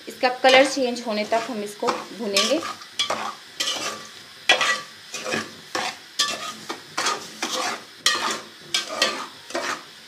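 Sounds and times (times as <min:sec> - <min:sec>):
light sizzle: 0:00.0 - 0:10.0
spoon scraping a pan: 0:00.3 - 0:10.0.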